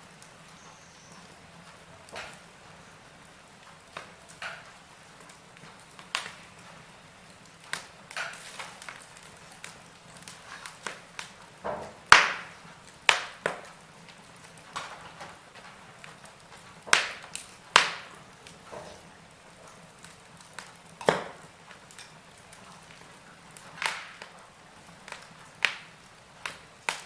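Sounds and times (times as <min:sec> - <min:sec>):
faint steady hiss: 0:00.0 - 0:27.0
fire crackling in a fireplace: 0:00.0 - 0:27.0
sharp pops and snaps: 0:03.7 - 0:18.9, 0:19.7 - 0:27.0.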